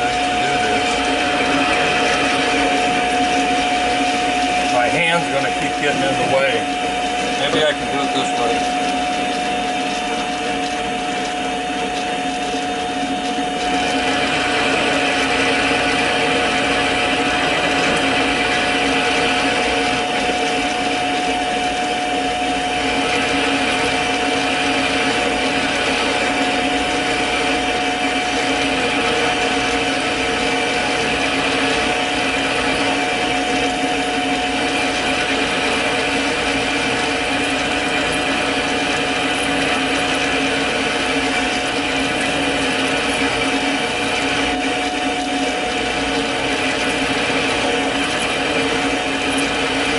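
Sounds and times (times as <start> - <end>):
lathe motor whine: 0.0 - 49.9.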